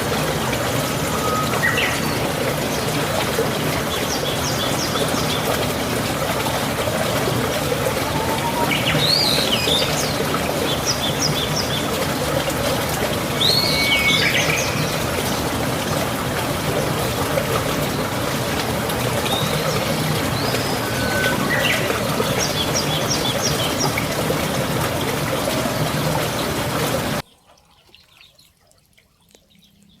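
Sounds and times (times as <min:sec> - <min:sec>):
birds chirping: 0:00.0 - 0:30.0
swooping bird calls: 0:00.7 - 0:12.1, 0:13.3 - 0:16.0, 0:19.1 - 0:30.0.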